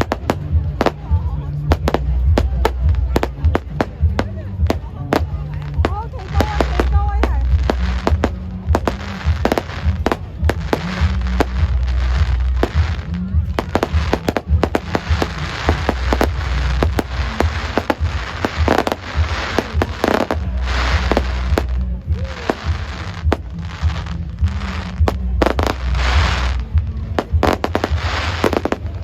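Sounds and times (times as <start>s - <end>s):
fireworks cracking and popping: 0.0s - 29.0s
fireworks hissing: 0.0s - 29.0s.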